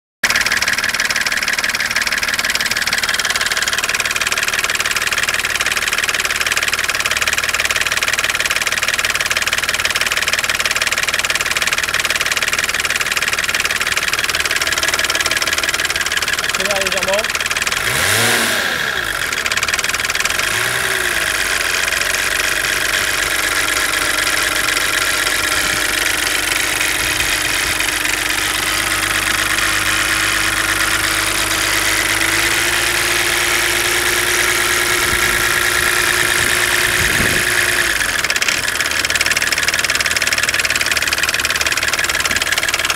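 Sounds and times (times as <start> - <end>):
diesel engine idling: 0.2 - 42.9
engine clattering: 0.2 - 42.9.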